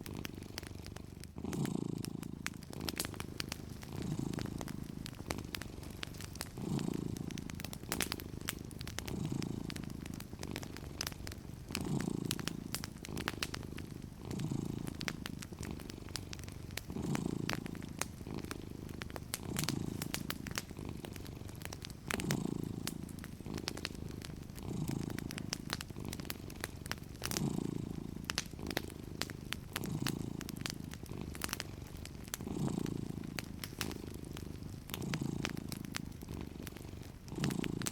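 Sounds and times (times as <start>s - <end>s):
cat purring: 0.0s - 37.9s
wood fire crackling: 0.0s - 37.9s.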